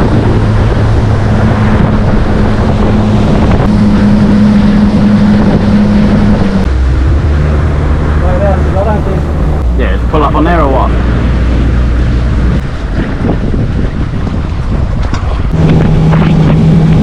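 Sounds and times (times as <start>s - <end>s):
motorboat engine running: 0.0s - 17.0s
water rushing: 0.0s - 17.0s
wind buffeting: 0.0s - 17.0s.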